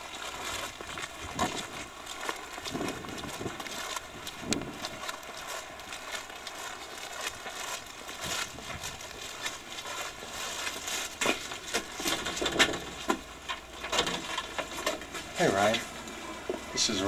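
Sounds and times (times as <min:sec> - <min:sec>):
coat rustling: 0:00.0 - 0:16.0
footsteps crunching on snow: 0:00.0 - 0:17.0.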